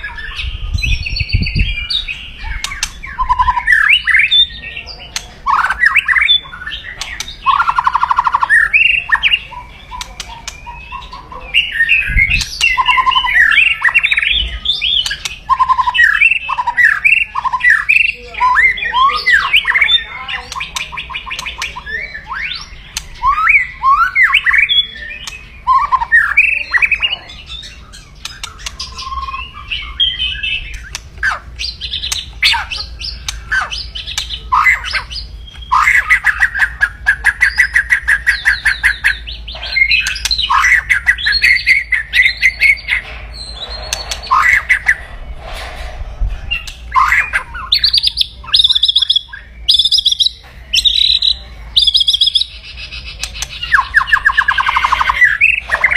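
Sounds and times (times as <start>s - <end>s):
bird song with harsh rattles: 0.0s - 55.9s.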